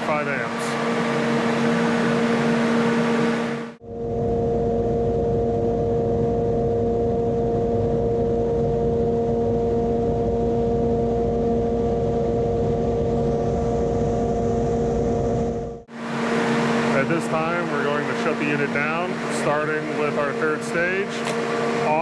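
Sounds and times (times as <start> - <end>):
electric heater fan blowing: 0.0 - 22.0
heater hum: 0.0 - 22.0.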